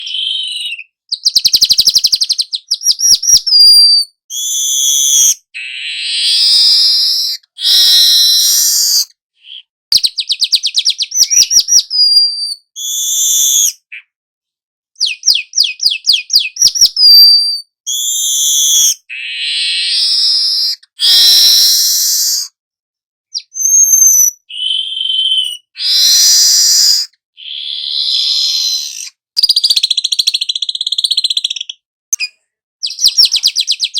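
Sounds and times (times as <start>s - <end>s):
weaver bird singing trills: 0.0s - 14.1s, 15.0s - 22.4s, 23.3s - 33.9s.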